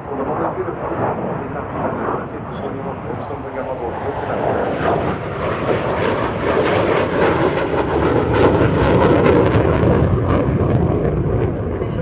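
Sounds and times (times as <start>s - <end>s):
jet engine roaring: 0.0s - 12.0s.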